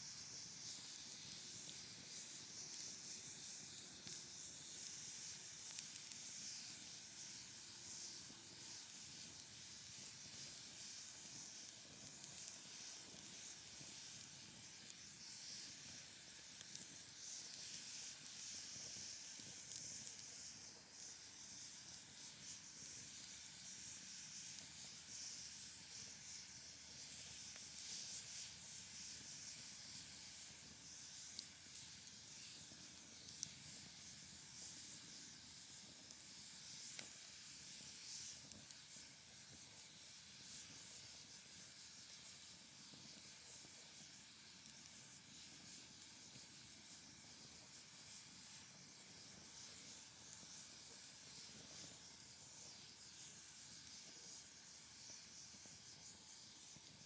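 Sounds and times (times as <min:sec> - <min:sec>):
fire hissing and crackling: 0:00.0 - 0:57.0.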